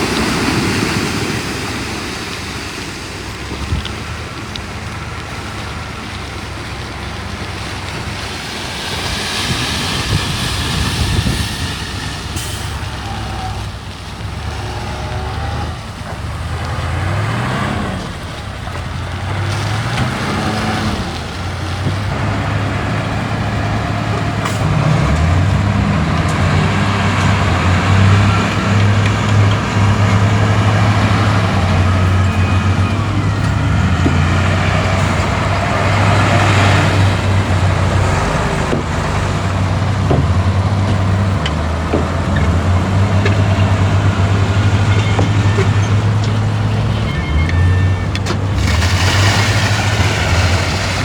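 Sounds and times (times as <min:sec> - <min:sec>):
heavy machinery diesel engines: 0:00.0 - 0:51.0.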